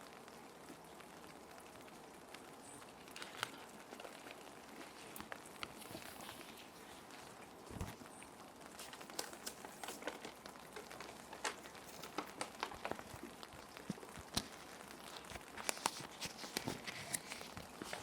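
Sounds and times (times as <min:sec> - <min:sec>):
gentle rain hissing: 0:00.0 - 0:18.0
plastic sheets crinkling: 0:02.8 - 0:18.0.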